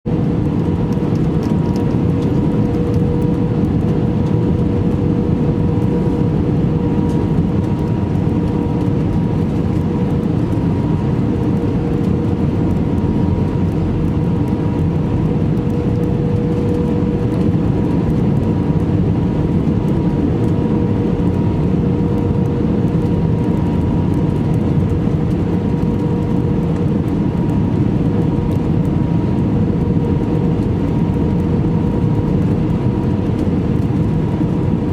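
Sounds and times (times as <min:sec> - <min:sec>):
engine and airflow rush: 0:00.0 - 0:34.9.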